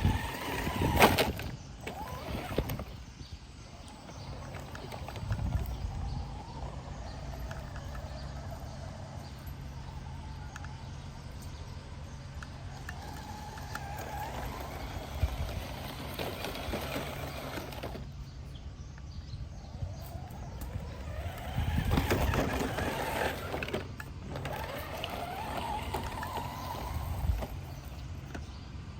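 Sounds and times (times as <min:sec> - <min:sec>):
remote-control car motor whining: 0:00.0 - 0:10.8, 0:12.4 - 0:18.4, 0:19.4 - 0:28.5.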